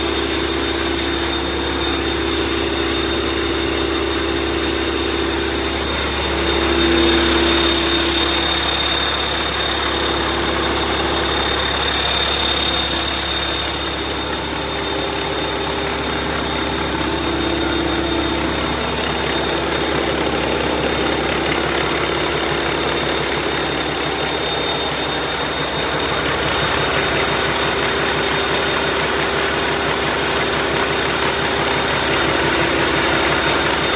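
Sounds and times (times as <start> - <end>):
diesel engine idling: 0.0 - 33.9
thin high whine: 0.0 - 33.9.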